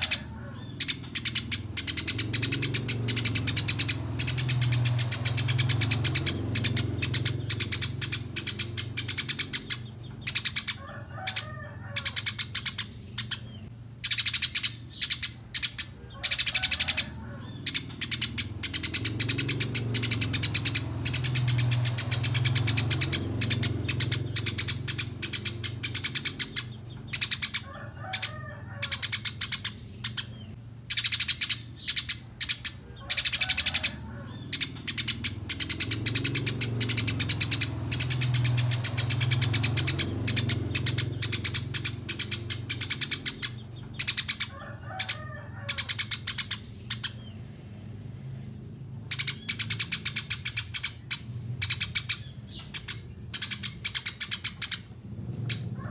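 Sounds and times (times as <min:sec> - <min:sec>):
sparrows chattering: 0:00.0 - 0:55.9.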